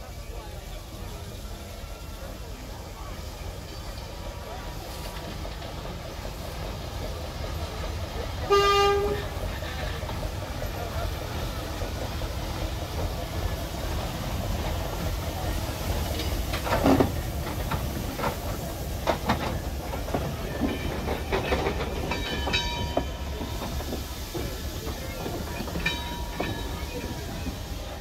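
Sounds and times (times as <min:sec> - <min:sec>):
steam hissing: 0:00.0 - 0:28.0
wheels rumbling on track: 0:00.0 - 0:28.0.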